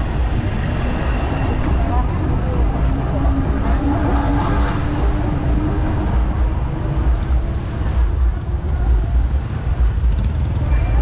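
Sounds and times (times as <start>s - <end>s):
motorbike and car engines: 0.0s - 11.0s.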